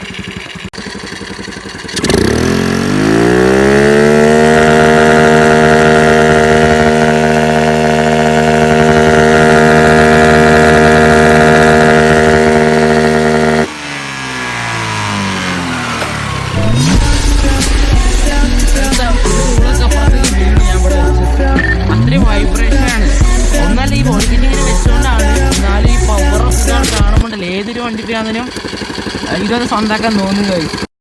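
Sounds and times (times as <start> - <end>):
scooter engine revving: 0.0 - 30.9.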